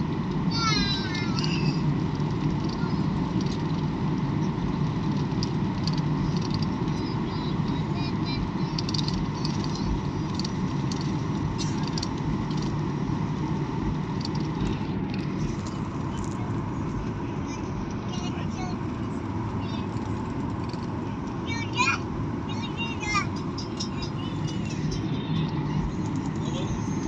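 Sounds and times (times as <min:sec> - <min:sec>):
airliner engines rumbling: 0:00.0 - 0:27.0
light clicks and rattles: 0:01.2 - 0:07.8, 0:08.6 - 0:12.8, 0:14.0 - 0:26.8.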